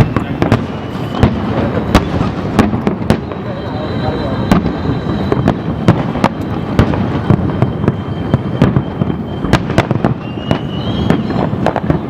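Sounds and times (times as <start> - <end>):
fireworks bangs and cracks: 0.0 - 12.0
fireworks rumbling: 0.0 - 12.0.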